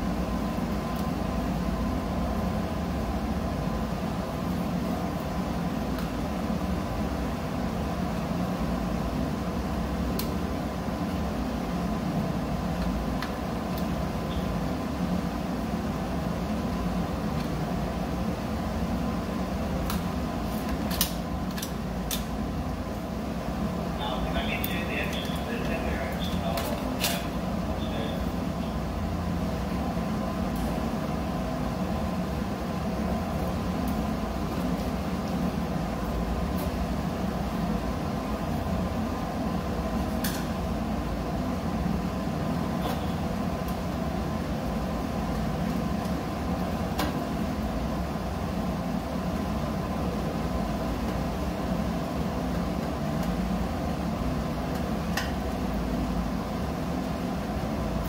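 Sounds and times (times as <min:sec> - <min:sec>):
machinery and ventilation drone: 0:00.0 - 0:58.0.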